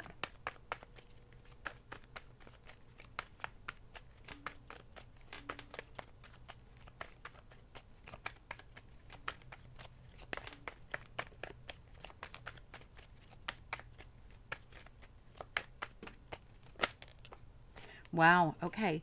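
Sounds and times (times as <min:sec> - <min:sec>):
cards being shuffled: 0:00.0 - 0:17.5.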